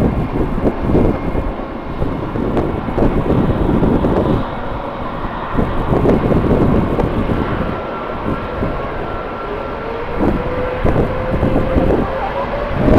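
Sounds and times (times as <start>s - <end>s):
distant jet engines whining: 0.0s - 12.9s
wind buffeting microphone: 0.0s - 12.9s.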